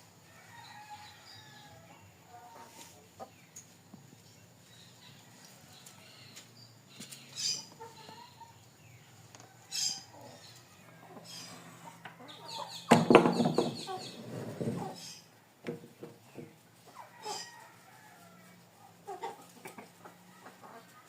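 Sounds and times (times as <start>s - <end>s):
chickens squawking and cackling: 0.0s - 15.6s, 16.2s - 21.0s
chickens clucking: 0.4s - 21.0s.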